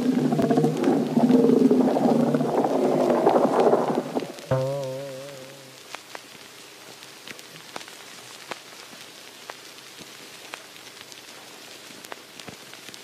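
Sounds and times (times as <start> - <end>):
sharp crackles: 0.0 - 13.0
soft hiss: 0.0 - 13.0.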